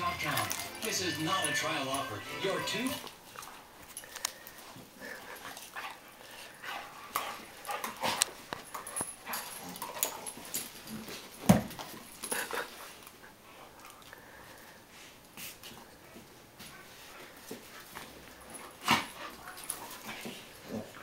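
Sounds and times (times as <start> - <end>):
dogs scuffling: 0.0 - 13.2, 13.8 - 21.0.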